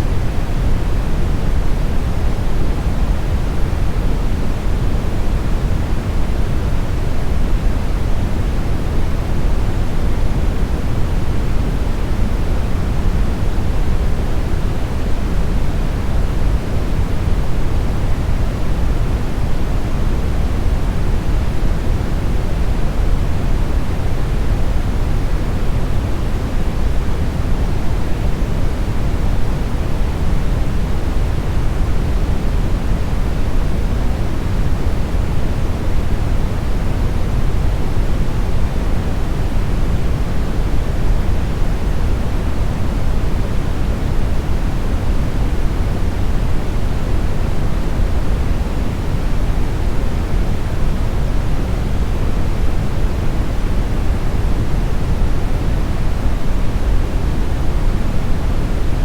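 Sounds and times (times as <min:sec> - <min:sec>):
deep rumbling brown noise: 0:00.0 - 0:59.0.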